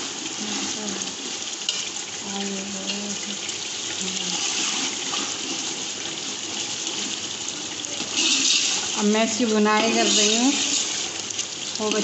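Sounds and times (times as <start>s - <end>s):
curry sizzling and bubbling in oil: 0.0s - 12.0s.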